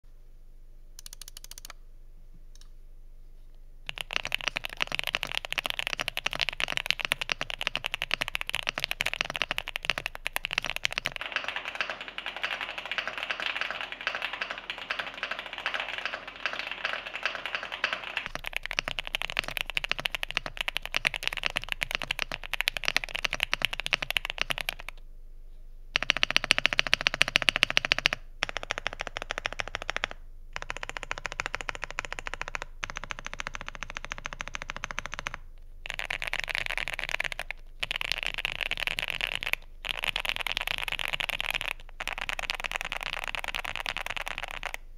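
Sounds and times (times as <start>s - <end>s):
typing on mechanical keyboard: 1.0s - 1.8s, 3.9s - 25.0s, 26.0s - 44.8s.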